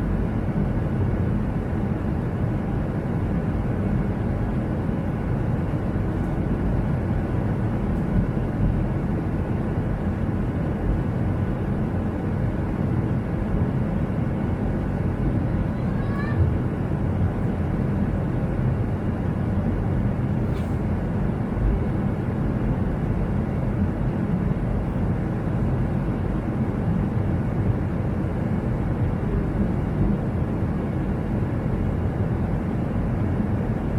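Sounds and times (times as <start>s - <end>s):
jet engines rumbling in cabin: 0.0s - 33.9s.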